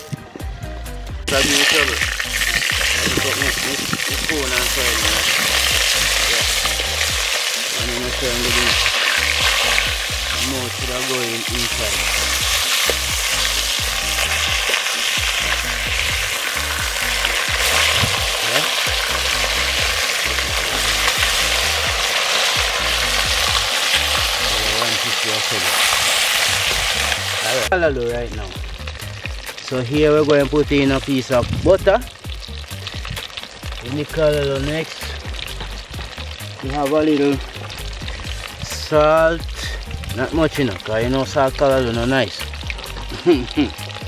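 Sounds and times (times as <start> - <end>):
fish sizzling in oil: 1.3 - 44.0.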